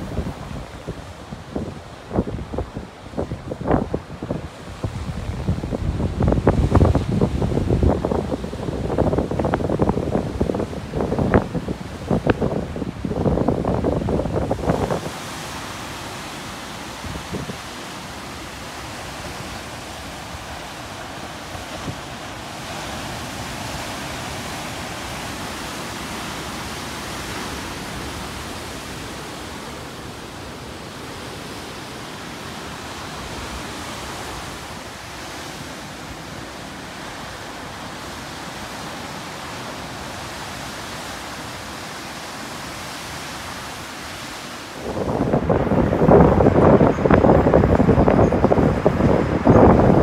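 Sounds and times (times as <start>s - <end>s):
surf breaking over rocks: 0.0s - 50.0s.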